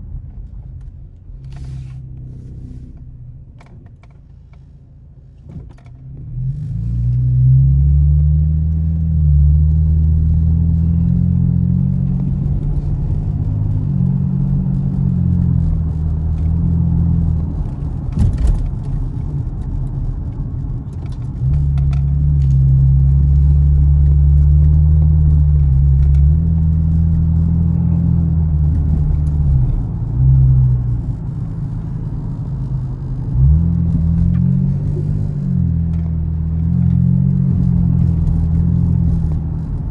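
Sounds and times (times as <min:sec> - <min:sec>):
car engine rumbling: 0:00.0 - 0:39.9.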